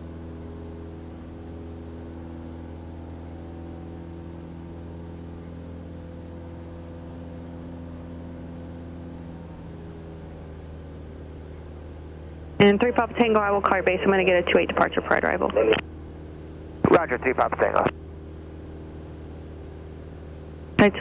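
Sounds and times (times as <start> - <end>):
faint high whine: 0.0 - 21.0
propeller plane engine droning: 0.0 - 21.0.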